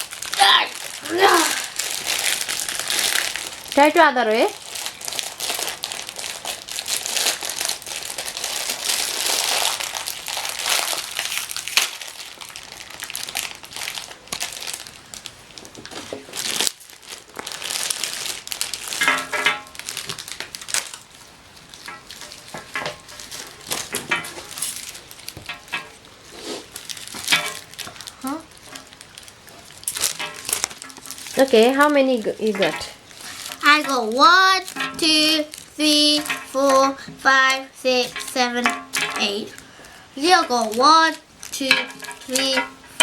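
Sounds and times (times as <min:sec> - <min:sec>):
plastic wrappers crinkling: 0:00.0 - 0:43.0.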